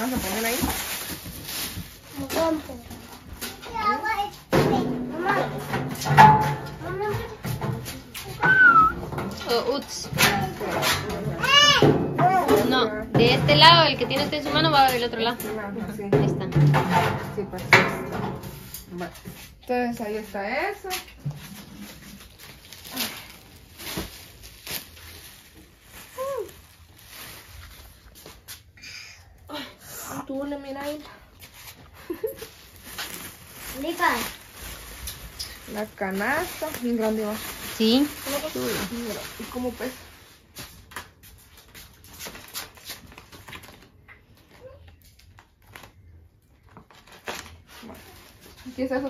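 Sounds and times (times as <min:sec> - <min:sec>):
plastic wrapping crinkling: 0:00.0 - 0:04.3, 0:06.5 - 0:16.1, 0:18.9 - 0:28.8, 0:30.6 - 0:49.0.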